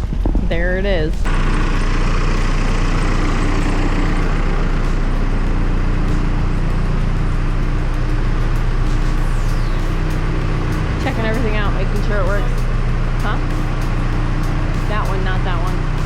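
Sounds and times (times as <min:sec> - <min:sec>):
engine idling: 0:01.1 - 0:16.0.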